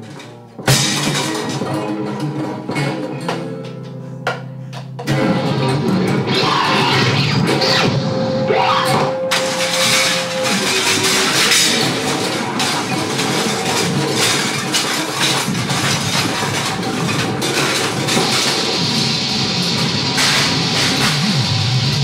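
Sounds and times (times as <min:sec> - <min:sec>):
clattering and crunching hits: 0:00.0 - 0:03.9, 0:04.9 - 0:22.0
harsh experimental noise music: 0:00.0 - 0:22.0.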